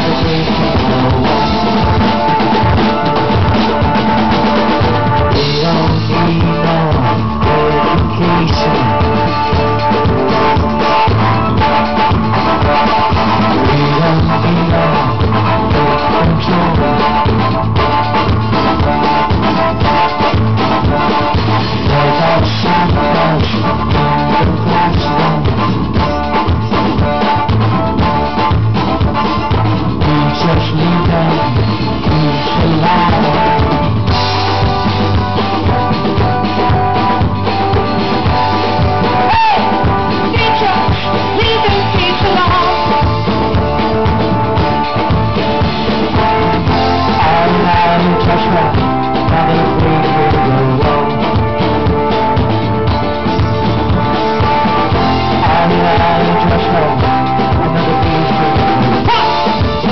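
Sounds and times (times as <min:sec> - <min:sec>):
drum kit steady beat: 0:00.0 - 0:59.9
live band playing loud: 0:00.0 - 0:59.9.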